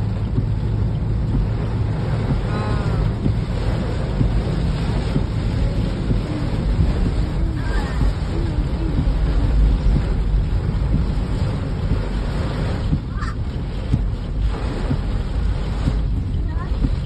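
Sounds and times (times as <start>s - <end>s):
deep rumble: 0.0s - 17.0s
heavy rain on car roof: 0.0s - 17.0s.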